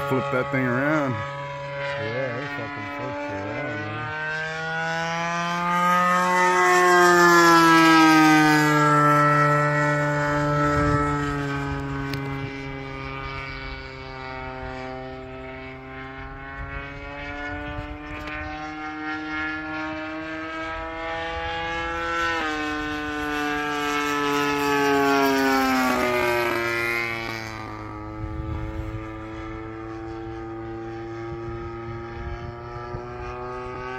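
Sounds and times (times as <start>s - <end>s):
model airplane engine droning: 0.0s - 33.9s.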